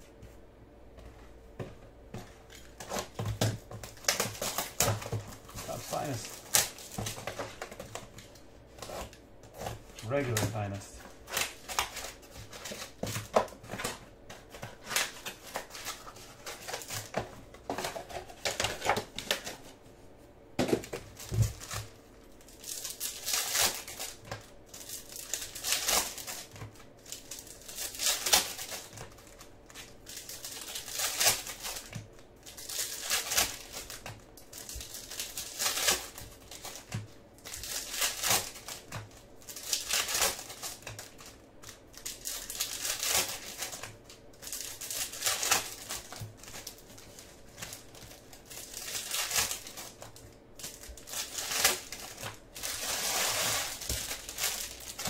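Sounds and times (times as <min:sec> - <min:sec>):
foil wrappers crinkling and tearing: 0:02.4 - 0:19.8, 0:20.7 - 0:55.0.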